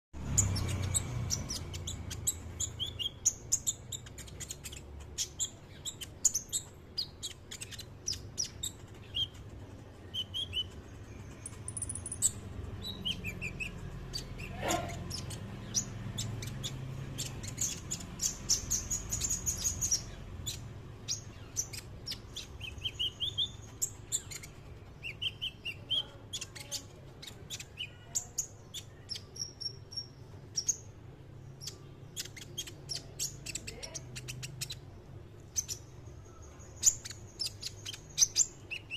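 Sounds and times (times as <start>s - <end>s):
sunbird chirping and trilling: 0.2s - 38.9s.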